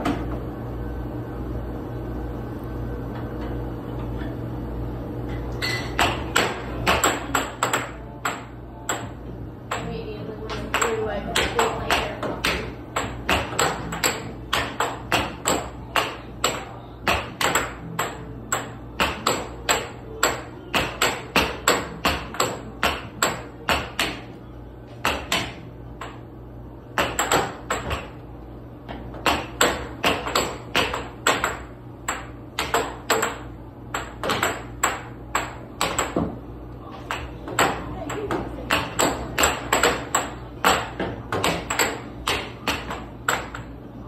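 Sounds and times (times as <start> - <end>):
air hockey puck clacking: 5.6 - 9.9, 10.5 - 26.2, 26.9 - 28.2, 28.9 - 43.7.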